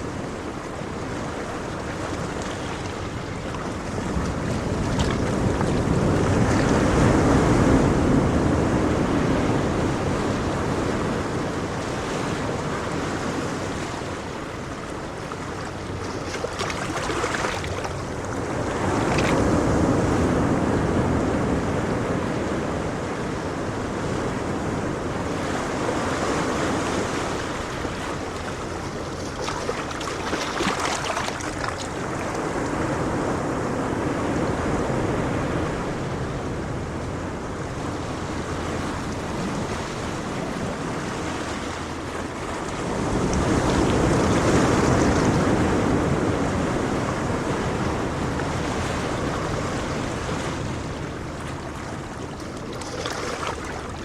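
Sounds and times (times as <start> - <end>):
ocean waves washing ashore: 0.0 - 54.0
wind rumble on microphone: 0.0 - 54.0.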